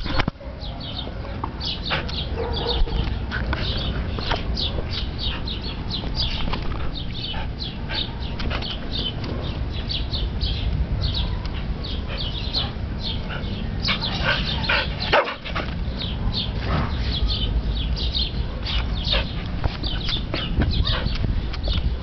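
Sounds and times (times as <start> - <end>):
dogs barking and yipping: 0.0 - 9.7, 11.0 - 17.5, 18.1 - 21.2
steady low rumble: 0.0 - 22.0.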